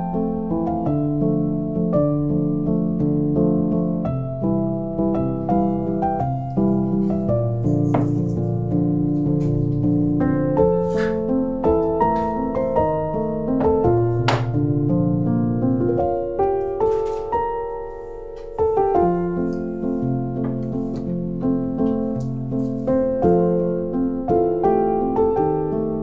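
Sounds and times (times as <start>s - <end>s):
soft solo piano music: 0.0s - 26.0s.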